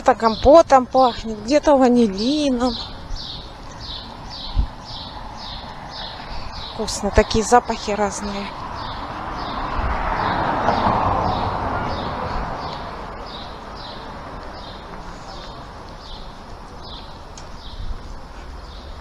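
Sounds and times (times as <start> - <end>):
street ambience noise: 0.0 - 19.0.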